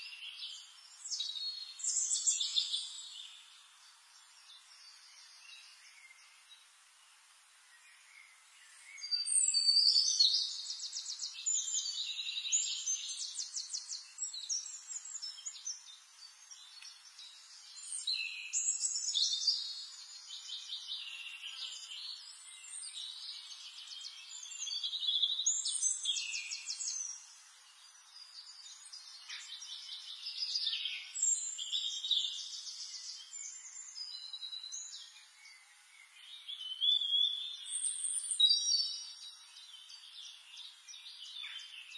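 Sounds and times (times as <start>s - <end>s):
birds chirping and trilling: 0.0s - 41.9s.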